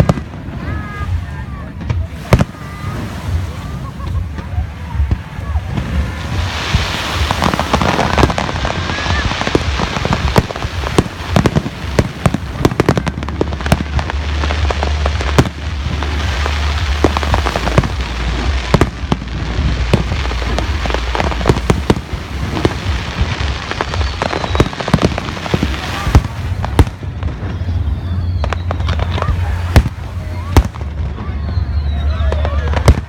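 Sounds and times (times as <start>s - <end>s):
fireworks bangs and crackles: 0.0s - 33.0s
low rumble: 0.0s - 33.0s.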